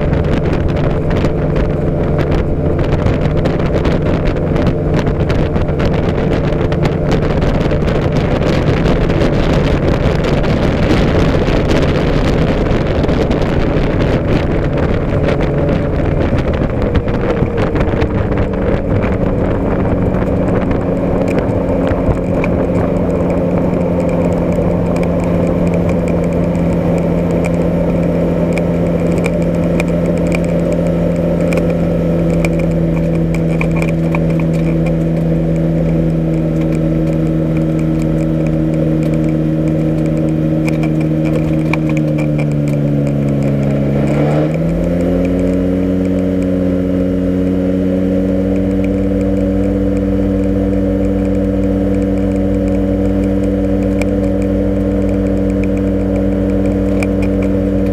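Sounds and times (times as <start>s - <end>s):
light aircraft engine and propeller: 0.0s - 57.9s
wind noise: 0.0s - 57.9s.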